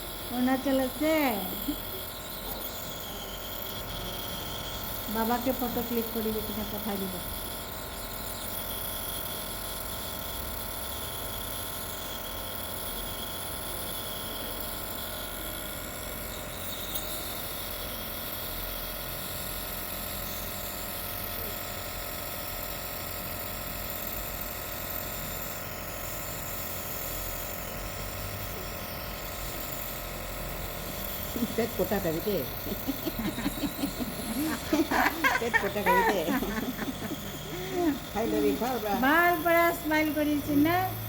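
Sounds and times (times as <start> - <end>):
small electric motor humming: 0.0 - 41.0.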